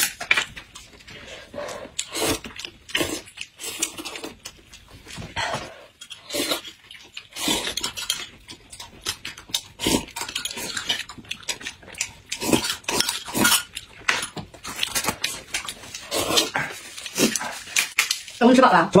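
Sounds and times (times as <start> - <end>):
wet slurping and chewing: 0.8 - 18.4.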